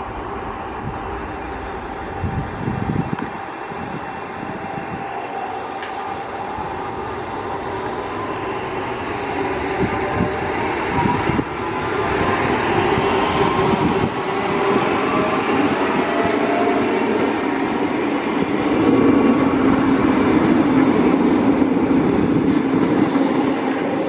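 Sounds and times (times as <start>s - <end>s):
train on rails rumbling: 0.0s - 24.0s.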